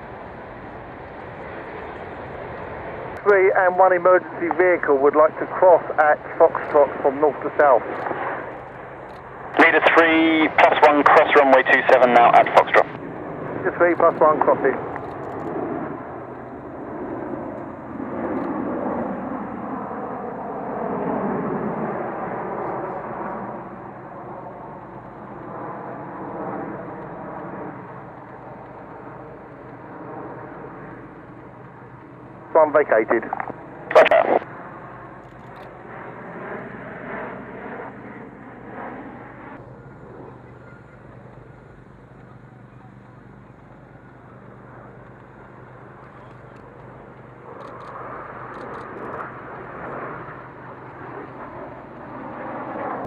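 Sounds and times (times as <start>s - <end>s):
jet aircraft roar: 0.0s - 53.0s.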